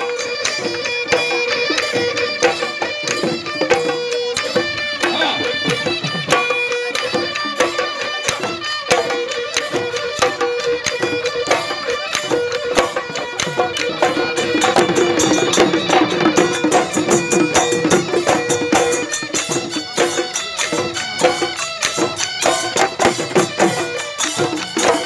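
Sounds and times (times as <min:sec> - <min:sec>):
held melody line: 0:00.0 - 0:25.0.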